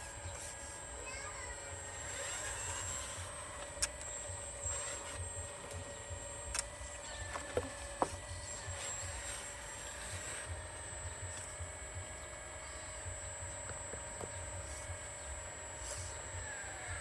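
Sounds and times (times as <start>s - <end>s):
electric drive whine: 0.0s - 17.0s.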